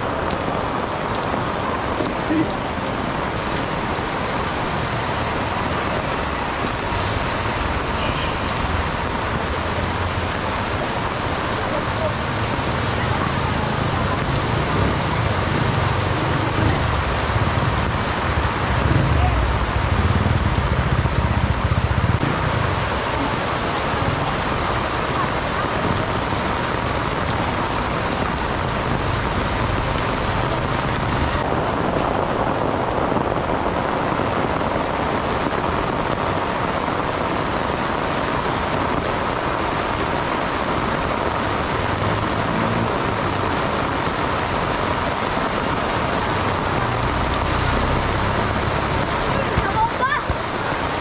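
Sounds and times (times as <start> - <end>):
torrential rain on a street: 0.0 - 51.0.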